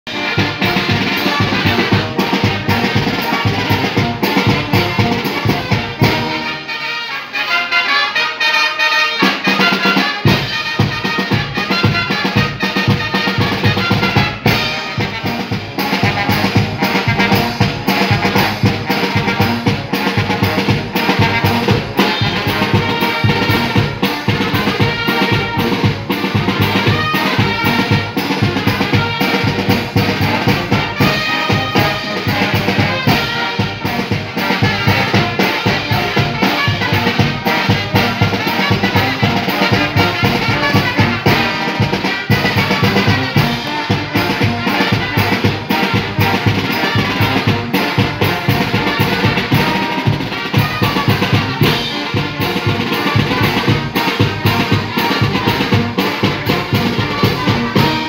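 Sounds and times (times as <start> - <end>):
dance music with brass and drums: 0.1 - 58.0.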